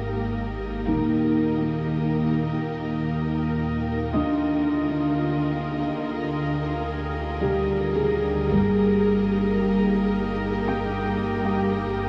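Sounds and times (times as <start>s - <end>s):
slow soft background music: 0.0s - 12.0s.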